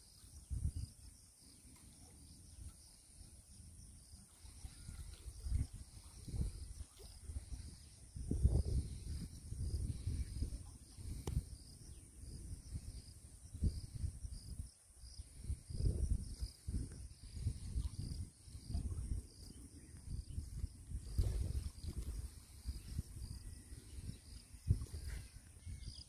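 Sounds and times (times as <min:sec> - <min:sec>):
insect high drone: 0:00.0 - 0:26.0
wind buffeting microphone: 0:00.4 - 0:00.9, 0:04.5 - 0:26.0
insect short high chirps: 0:02.2 - 0:26.0.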